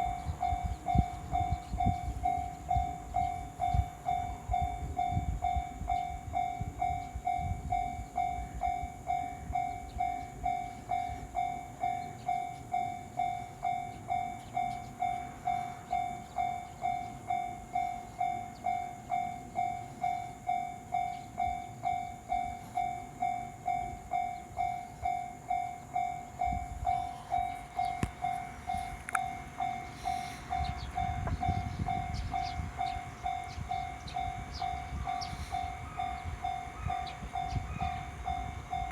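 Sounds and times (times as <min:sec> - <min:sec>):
level crossing warning bell ringing: 0:00.0 - 0:38.9
train rumbling past: 0:00.0 - 0:38.9.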